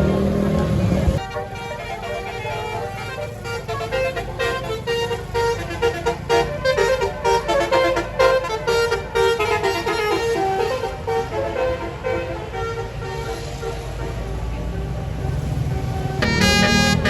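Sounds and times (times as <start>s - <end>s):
low rumble of engines: 0.0s - 17.0s
multi-tone musical bus horn: 0.0s - 17.0s.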